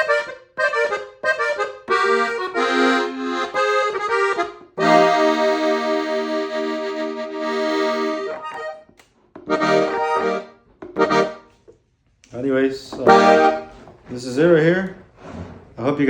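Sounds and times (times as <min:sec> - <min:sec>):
accordion playing chords: 0:00.0 - 0:11.7, 0:12.9 - 0:14.3.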